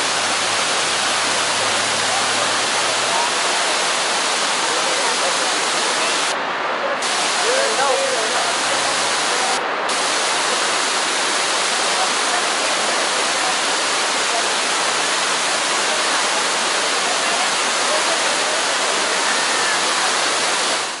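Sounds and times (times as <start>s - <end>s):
waterfall rushing over rocks: 0.0s - 21.0s.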